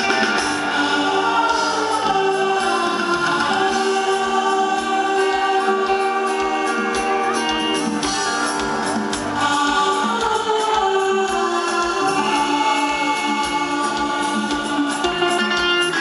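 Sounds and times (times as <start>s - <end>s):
several voices singing: 0.0s - 16.0s
steady drumbeat: 0.0s - 16.0s.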